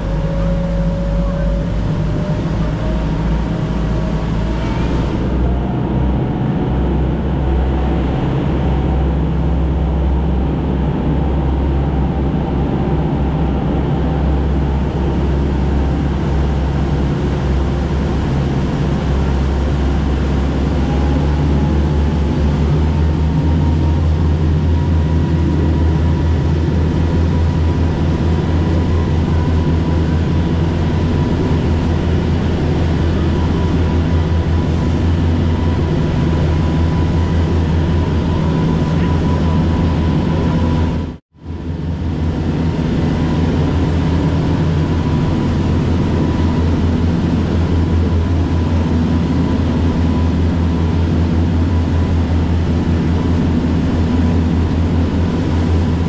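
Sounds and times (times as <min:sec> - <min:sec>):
ship engine drone: 0:00.0 - 0:56.0
water rushing in wake: 0:00.0 - 0:56.0.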